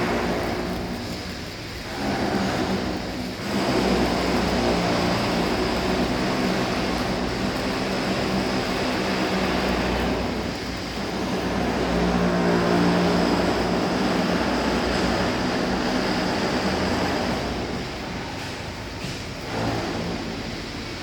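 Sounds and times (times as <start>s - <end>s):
machine humming with hiss: 0.0s - 21.0s.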